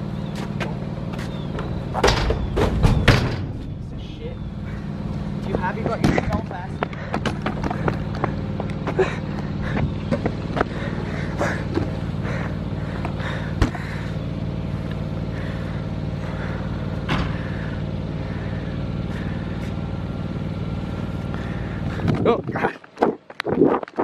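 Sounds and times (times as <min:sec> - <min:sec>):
low mechanical hum: 0:00.0 - 0:23.6.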